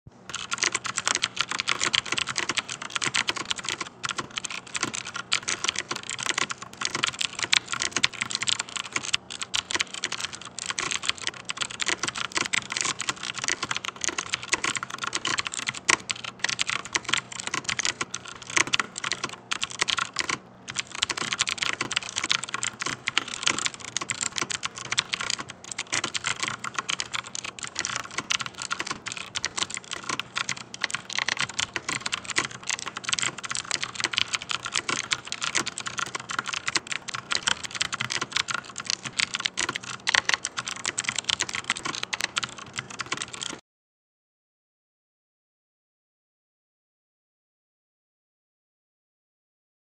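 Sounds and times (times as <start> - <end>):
mechanical keyboard typing: 0.3 - 43.6.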